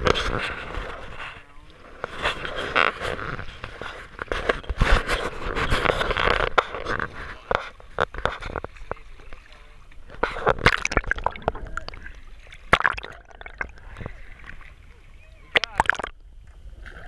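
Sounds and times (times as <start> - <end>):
water sloshing against boat: 0.0 - 17.0.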